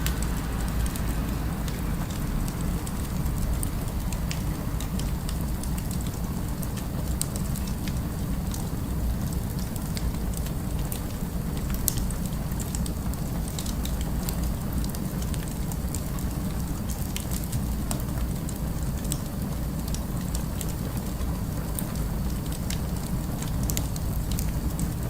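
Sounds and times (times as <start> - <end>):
city ambience rumble: 0.0 - 25.0
fireplace crackling: 0.0 - 25.0.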